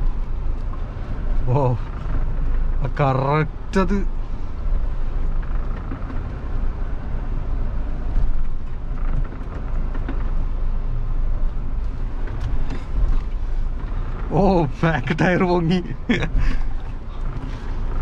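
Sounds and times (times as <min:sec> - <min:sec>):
diesel engine rumbling under load: 0:00.0 - 0:18.0.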